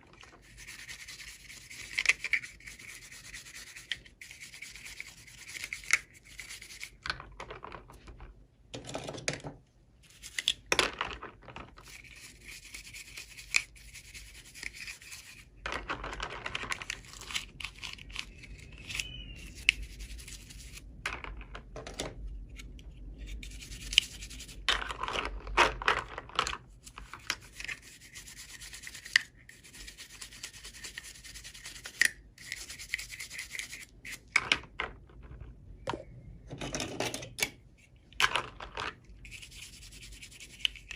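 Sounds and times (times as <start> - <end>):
hands scratching toy packaging: 0.1 - 7.9, 10.0 - 21.4, 22.5 - 34.4, 38.3 - 40.9.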